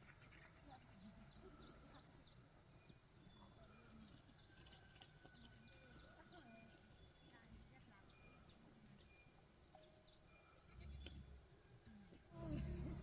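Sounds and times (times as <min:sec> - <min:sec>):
bird chirping: 0:00.1 - 0:13.0.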